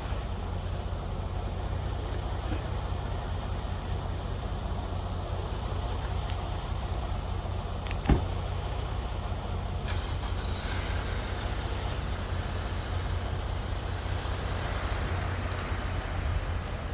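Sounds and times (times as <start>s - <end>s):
vehicle engine rumbling: 0.0s - 16.9s.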